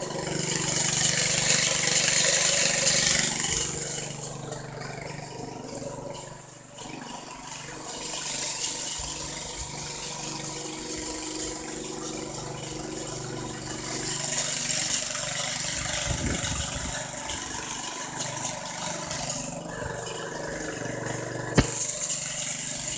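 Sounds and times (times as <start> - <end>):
boring machine engine running: 0.0 - 22.9.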